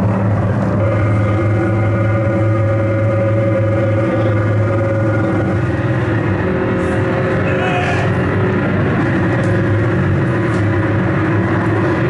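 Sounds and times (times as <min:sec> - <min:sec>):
distorted harsh noise music: 0:00.0 - 0:12.0.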